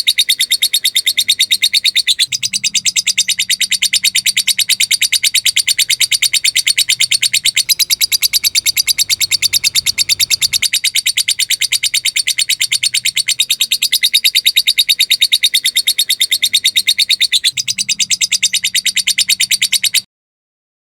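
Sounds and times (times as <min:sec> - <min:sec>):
lovebird chattering: 0:00.0 - 0:20.1.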